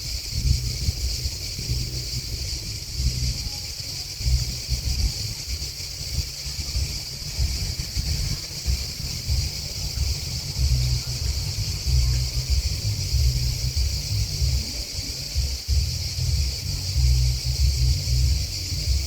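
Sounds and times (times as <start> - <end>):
insects chirping: 0.0 - 19.0
wind buffeting microphone: 0.0 - 19.0.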